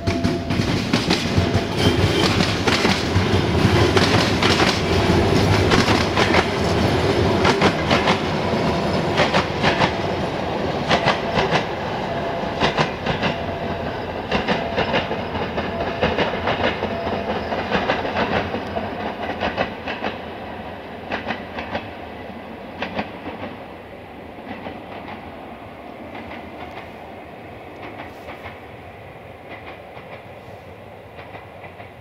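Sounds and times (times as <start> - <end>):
train wheels clacking over rail joints: 0.0 - 20.4, 21.0 - 22.0, 22.7 - 23.6, 24.4 - 25.3, 27.7 - 28.7, 29.4 - 32.0
rail rumble: 0.0 - 32.0.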